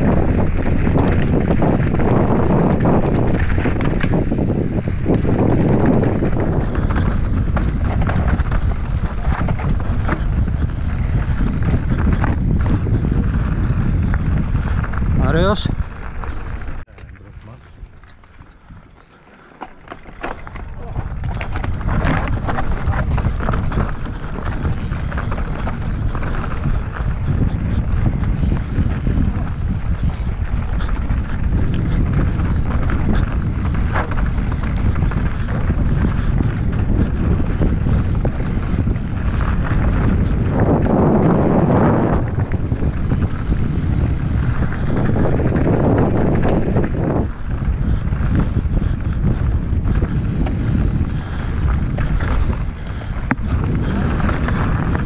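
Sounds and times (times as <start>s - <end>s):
wind rushing over microphone: 0.0s - 19.0s, 19.8s - 55.0s
bike tyres rumbling on gravel: 0.0s - 55.0s.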